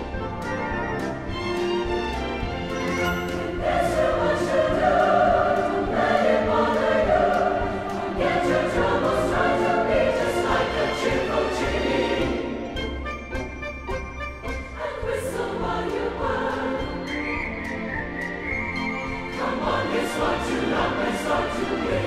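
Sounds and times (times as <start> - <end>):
choir singing with accompaniment: 0.0 - 22.0.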